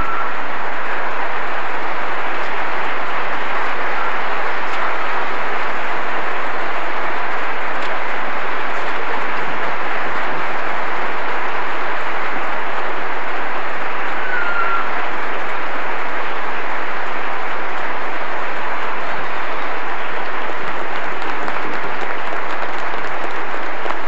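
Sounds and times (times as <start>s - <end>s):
large audience applauding: 0.0s - 24.0s.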